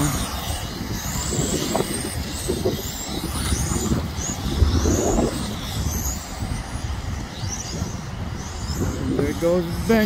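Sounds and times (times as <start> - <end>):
race car motors whining: 0.0 - 10.0.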